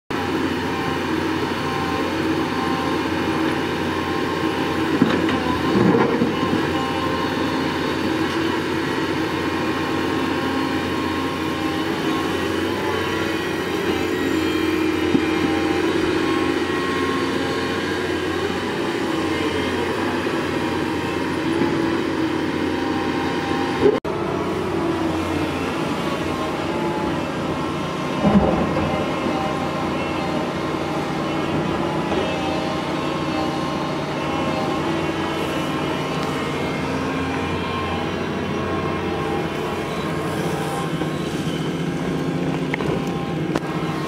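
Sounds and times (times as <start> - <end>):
excavator engine and hydraulics droning: 0.1 - 44.0.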